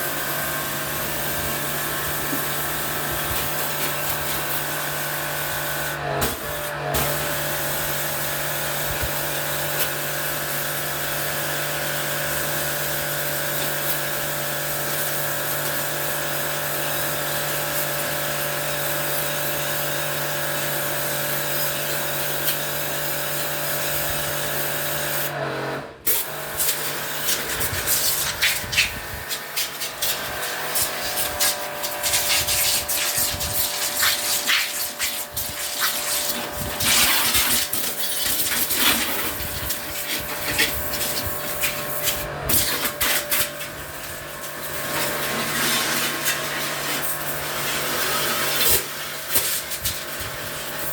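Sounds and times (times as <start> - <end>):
water pump spraying hiss: 0.0 - 25.4, 26.1 - 50.9.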